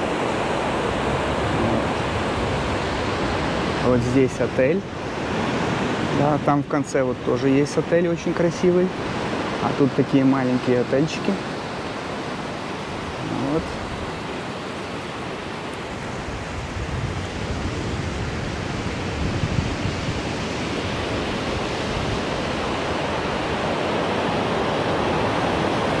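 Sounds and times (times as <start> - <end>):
wind rumbling on microphone: 0.0 - 7.7, 11.4 - 26.0
ocean surf washing on beach: 0.0 - 26.0.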